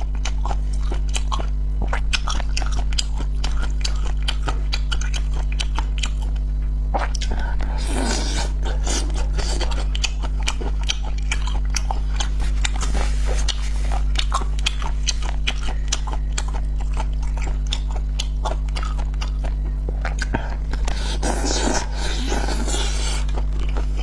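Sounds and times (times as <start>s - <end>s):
steady low hum: 0.0s - 24.0s
wet chewing mouth clicks: 0.0s - 24.0s.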